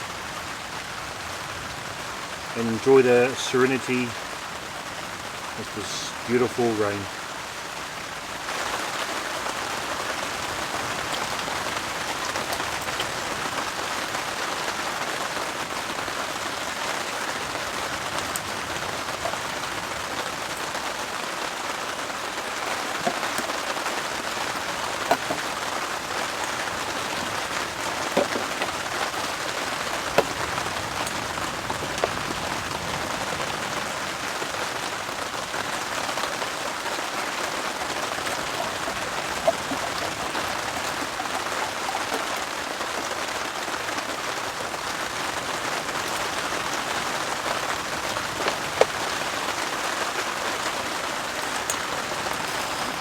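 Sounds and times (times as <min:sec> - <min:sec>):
rain on a tarp: 0:00.0 - 0:53.0.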